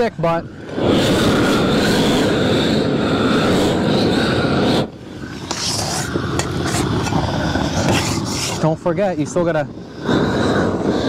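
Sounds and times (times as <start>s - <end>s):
propane torch burning: 0.0s - 11.0s.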